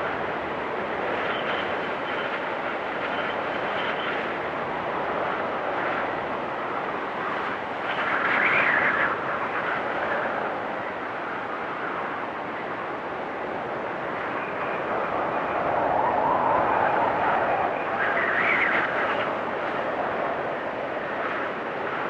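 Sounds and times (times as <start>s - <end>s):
storm wind whistling: 0.0s - 22.0s.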